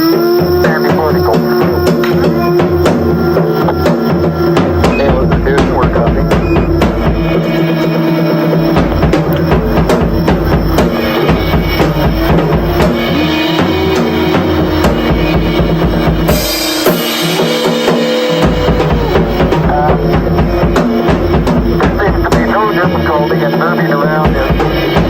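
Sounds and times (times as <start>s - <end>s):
drum kit solo: 0.0s - 25.0s
held backing tones: 0.0s - 25.0s.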